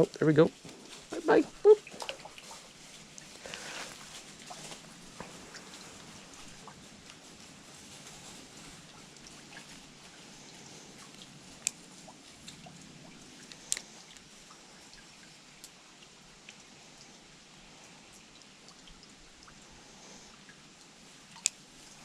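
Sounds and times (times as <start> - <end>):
hiss of creek water: 0.0 - 22.0.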